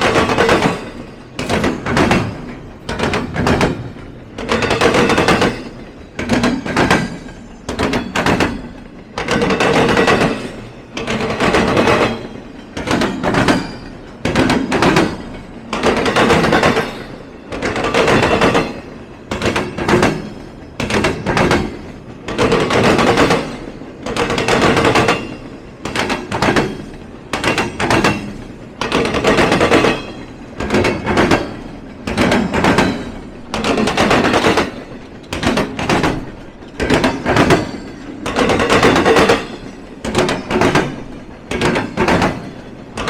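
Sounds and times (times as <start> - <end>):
train wheels clattering over crossing: 0.0 - 43.0.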